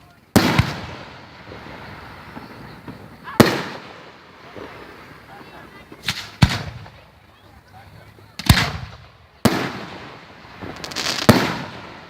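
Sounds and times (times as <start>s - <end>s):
fireworks bangs: 0.0s - 7.5s, 8.2s - 12.0s
rumble after fireworks: 0.0s - 12.0s.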